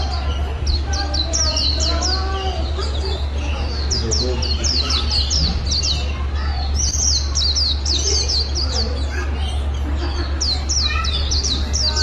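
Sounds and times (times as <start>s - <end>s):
songbird chirping: 0.0s - 12.0s
steady low hum: 0.0s - 12.0s.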